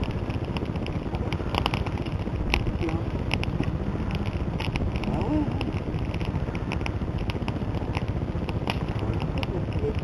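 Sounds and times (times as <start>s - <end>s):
campfire crackling and popping: 0.0s - 10.0s
steady low rushing noise: 0.0s - 10.0s.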